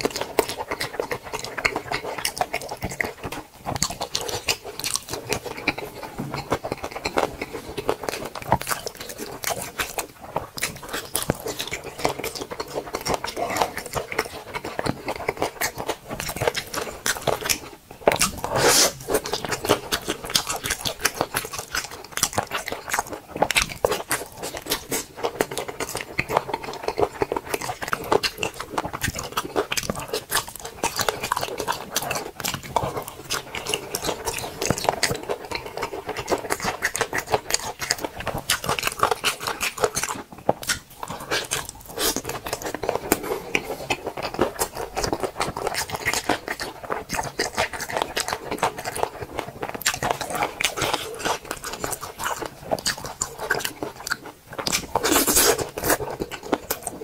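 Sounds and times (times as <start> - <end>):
person chewing and smacking: 0.0 - 57.0.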